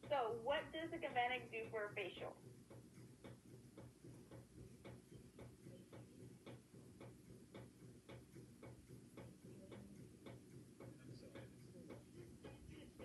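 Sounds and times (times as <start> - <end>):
faint regular ticking: 0.0 - 13.0
low steady hum: 0.0 - 13.0.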